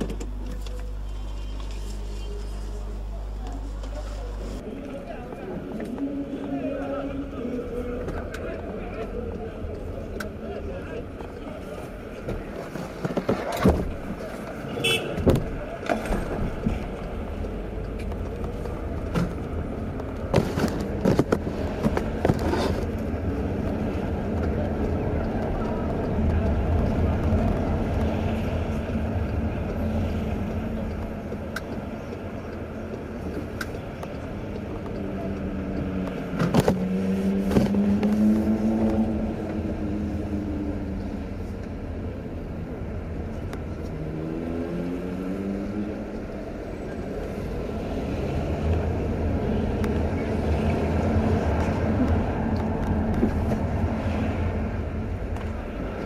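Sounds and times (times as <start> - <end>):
car engine: 0.0 - 56.0
road noise inside car: 0.0 - 56.0.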